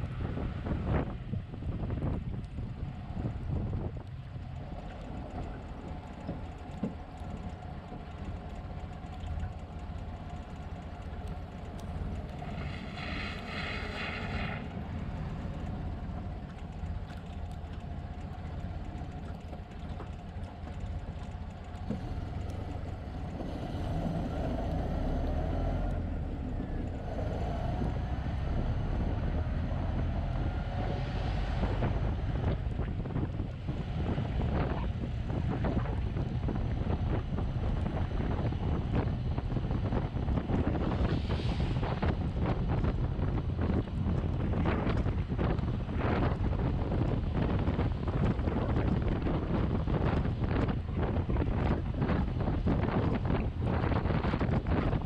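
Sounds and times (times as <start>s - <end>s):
car engine rumbling: 0.0s - 55.0s
wind and road noise: 0.0s - 55.0s.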